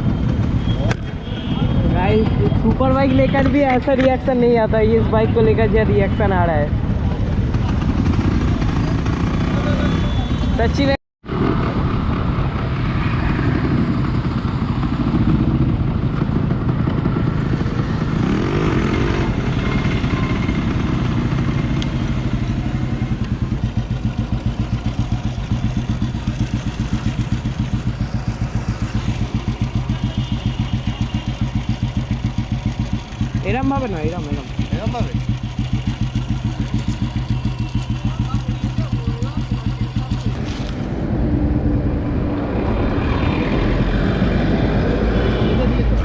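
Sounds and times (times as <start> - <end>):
motorcycle two-stroke engine running: 0.0 - 10.6, 11.3 - 46.0.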